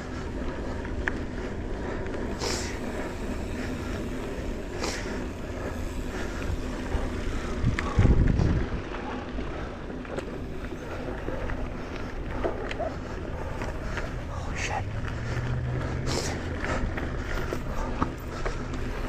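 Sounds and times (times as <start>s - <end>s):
bike running rumble: 0.0s - 19.0s.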